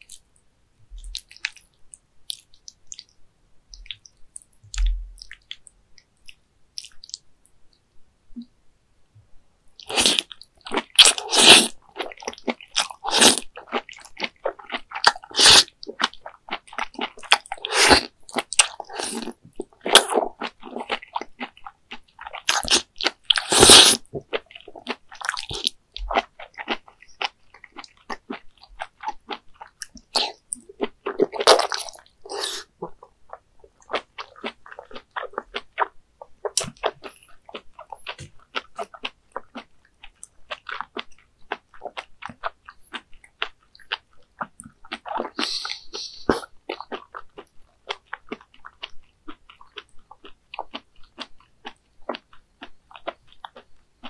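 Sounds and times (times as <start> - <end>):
person chewing wet food: 1.0 - 7.2, 9.8 - 54.0.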